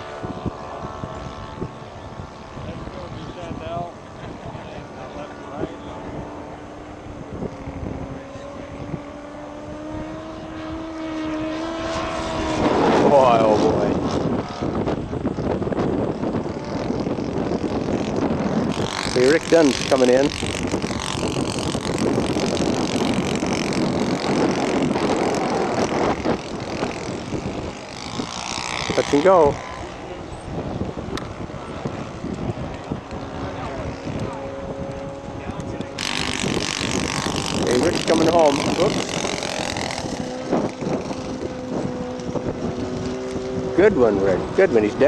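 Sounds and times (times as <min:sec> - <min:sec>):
model airplane engine droning: 0:00.0 - 0:45.0
wind rumbling on microphone: 0:00.0 - 0:45.0.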